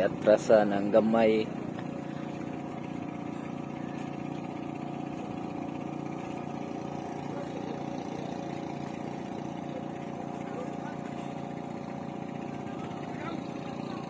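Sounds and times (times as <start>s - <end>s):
motor boat engine drone: 0.0s - 14.0s.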